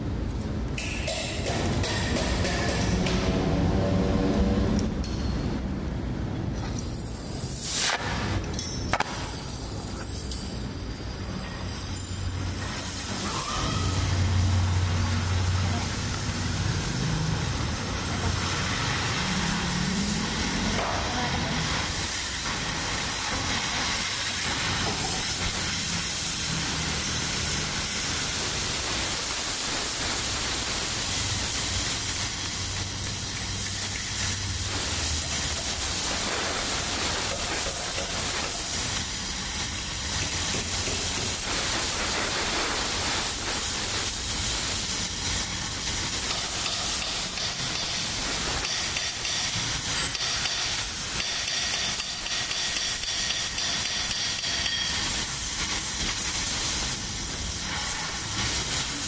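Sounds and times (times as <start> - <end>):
gas torch flame hissing: 6.7 - 59.0.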